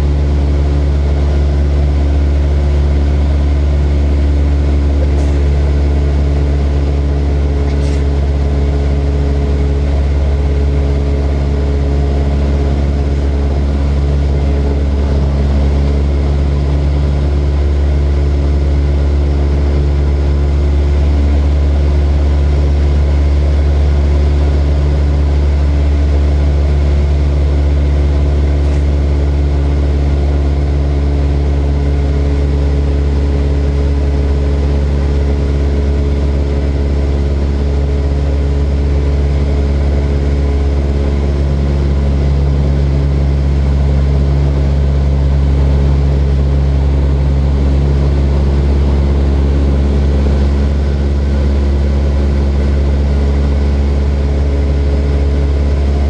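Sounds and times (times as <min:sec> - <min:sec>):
propeller airplane engine droning: 0:00.0 - 0:56.0.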